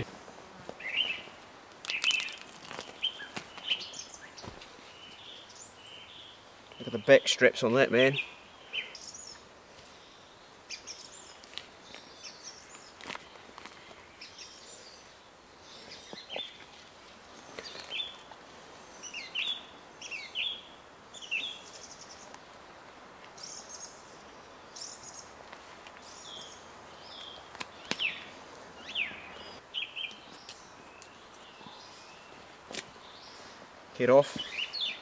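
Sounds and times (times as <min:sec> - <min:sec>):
low background hiss: 0:00.0 - 0:35.0
birds chirping and calling: 0:00.8 - 0:01.3, 0:01.9 - 0:22.4, 0:23.4 - 0:35.0.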